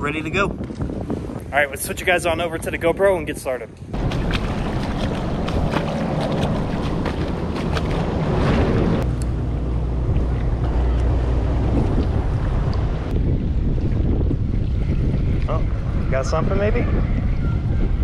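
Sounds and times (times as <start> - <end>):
water at the shoreline: 0.0 - 18.0
wind buffeting microphone: 0.0 - 18.0.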